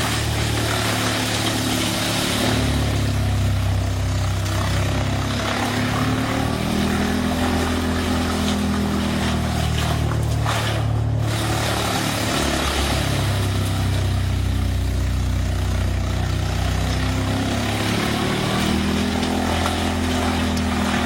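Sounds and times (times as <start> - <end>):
wood chipper engine droning: 0.0 - 21.0.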